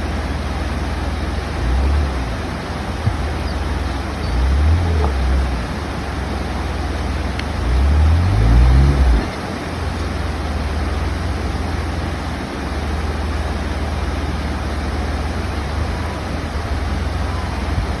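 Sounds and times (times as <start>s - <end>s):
constant rushing noise: 0.0s - 18.0s
off-road engine revving: 0.0s - 18.0s.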